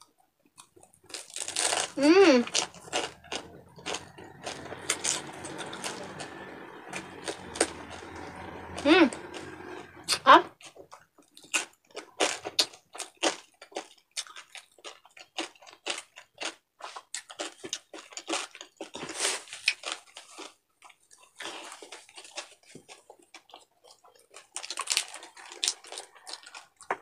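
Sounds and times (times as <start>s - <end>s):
chewing crunchy food: 0.4s - 27.0s.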